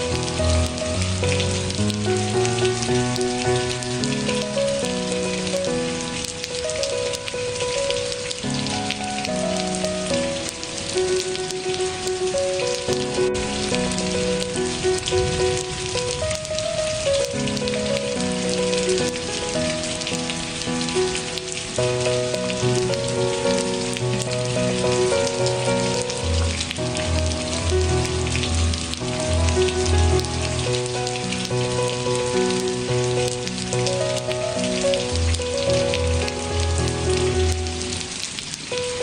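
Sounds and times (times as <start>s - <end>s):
rain pattering: 0.0s - 39.0s
soft instrumental music: 0.0s - 39.0s.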